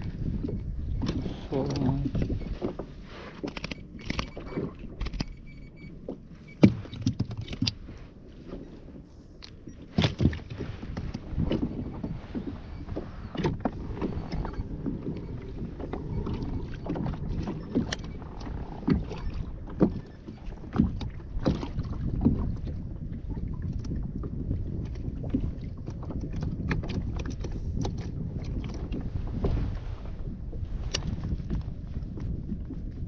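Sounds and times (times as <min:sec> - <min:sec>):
water slapping against kayak hull: 0:00.0 - 0:05.3, 0:06.0 - 0:33.0
low steady rumble: 0:00.0 - 0:33.0.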